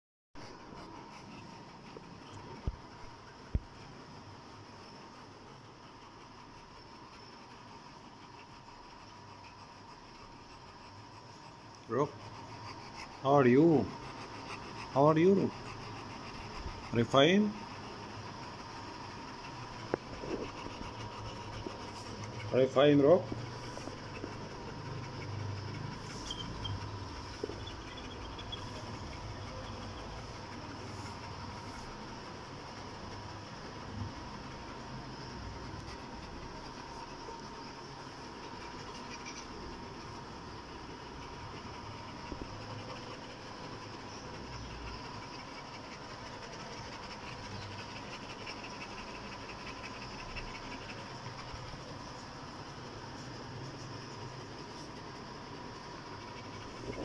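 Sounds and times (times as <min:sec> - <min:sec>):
dog breathing and rustling: 0:00.4 - 0:57.0
faint steady hum: 0:00.4 - 0:57.0.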